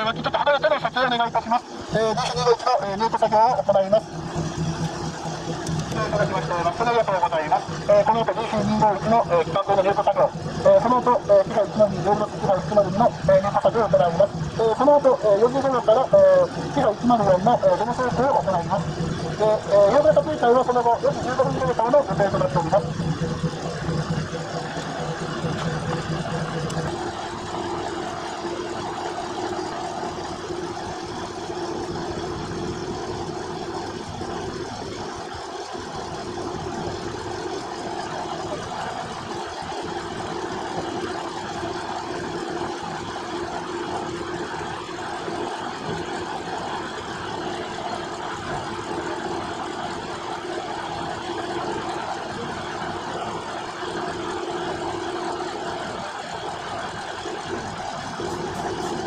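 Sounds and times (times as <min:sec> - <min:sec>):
diesel locomotive engine idling: 0:00.0 - 0:59.0.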